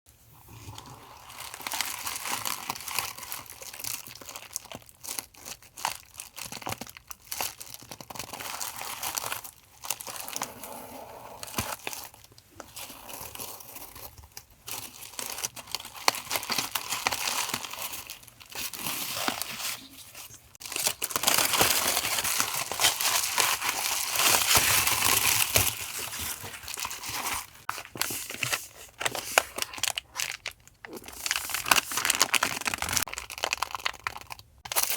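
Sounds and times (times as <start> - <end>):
packaging crinkling and rustling: 0.6 - 34.9.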